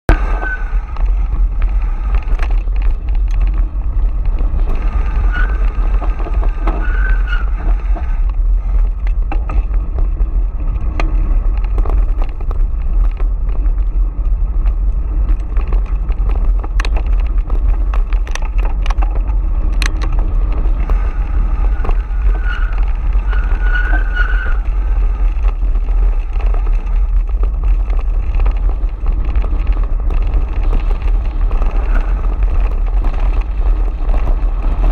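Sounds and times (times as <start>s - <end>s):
bike rattling over rocks: 0.1s - 34.9s
tyres rolling on loose stones: 0.1s - 34.9s
wind buffeting microphone: 0.1s - 34.9s.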